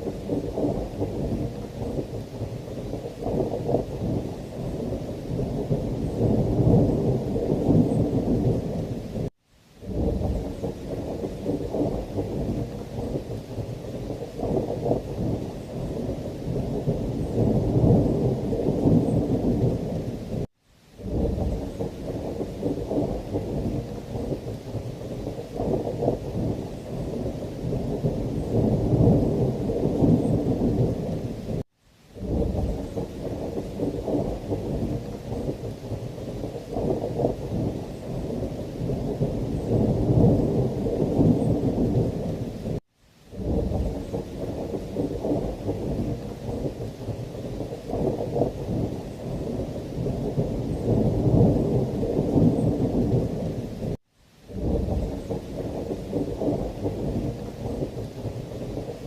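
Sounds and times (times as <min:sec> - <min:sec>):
rolling thunder: 0:00.0 - 0:31.6, 0:32.2 - 0:59.0
rain: 0:00.0 - 0:59.0.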